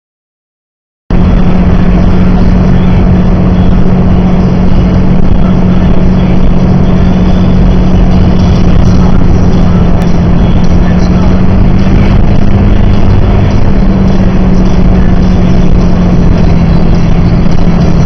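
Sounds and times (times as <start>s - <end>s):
car road and engine noise: 1.1s - 18.0s
constant low hum: 1.1s - 18.0s.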